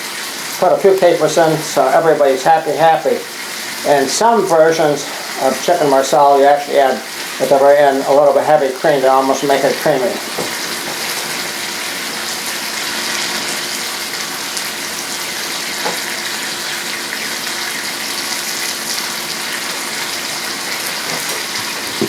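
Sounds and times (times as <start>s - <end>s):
sauce sizzling in a pan: 0.0s - 22.0s.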